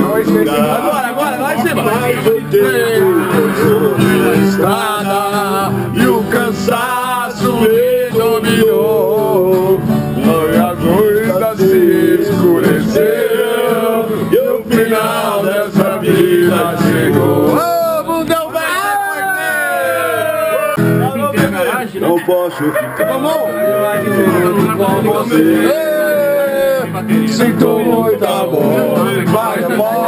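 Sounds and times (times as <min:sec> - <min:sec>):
man singing: 0:00.0 - 0:17.9, 0:23.7 - 0:30.0
acoustic guitar strumming: 0:00.0 - 0:19.0, 0:19.9 - 0:30.0.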